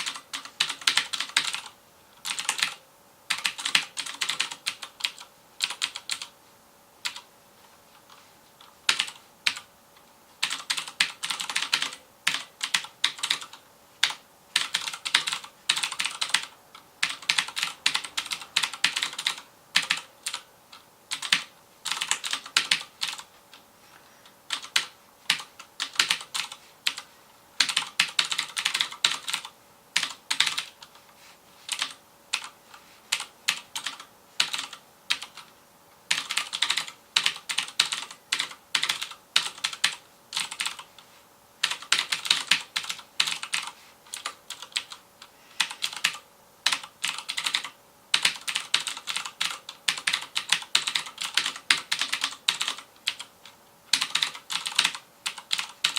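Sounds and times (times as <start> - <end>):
clicky mechanical keyboard typing: 0.0 - 6.3, 7.0 - 7.3, 8.0 - 9.7, 10.4 - 23.6, 24.5 - 31.0, 31.7 - 35.5, 36.1 - 41.0, 41.6 - 55.9.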